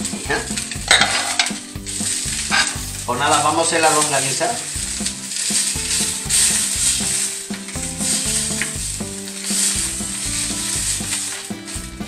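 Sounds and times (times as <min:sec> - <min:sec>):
background music: 0:00.0 - 0:12.0
metal tongs turning sausages: 0:00.0 - 0:12.0
sausages sizzling in oil: 0:00.0 - 0:12.0.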